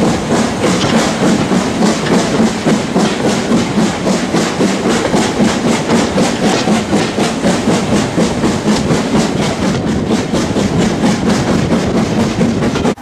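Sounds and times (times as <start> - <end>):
steam locomotive exhaust beat: 0.0 - 13.0
wind and train running noise: 0.0 - 13.0.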